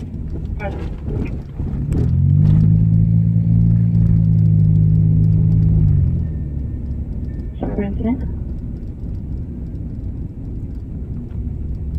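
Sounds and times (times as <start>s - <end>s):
car engine droning: 0.0s - 11.9s.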